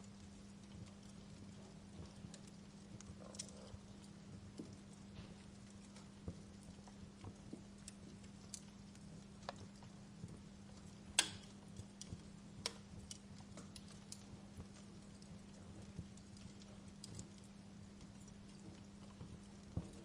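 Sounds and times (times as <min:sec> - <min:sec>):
faint low hum: 0:00.0 - 0:20.0
wood fire crackling: 0:00.0 - 0:20.0.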